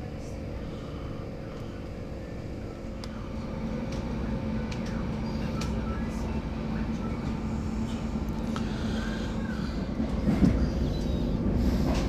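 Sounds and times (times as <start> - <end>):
train hum: 0.0 - 12.0
train rumble: 0.0 - 12.0.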